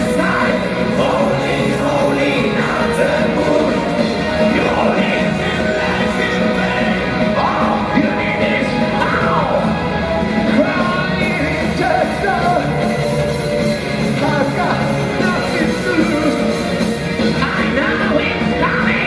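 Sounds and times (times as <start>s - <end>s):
heavy metal band playing: 0.0s - 19.0s.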